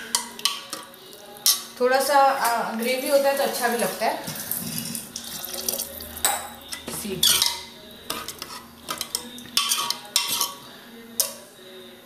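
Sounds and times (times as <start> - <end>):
ladle clinking and scraping a pot: 0.0 - 1.8, 2.9 - 11.5.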